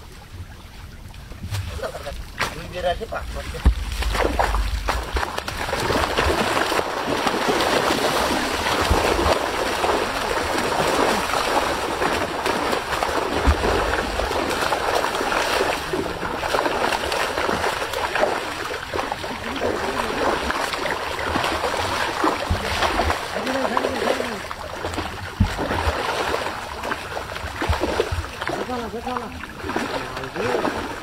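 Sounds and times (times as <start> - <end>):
fish splashing in water: 1.2 - 31.0.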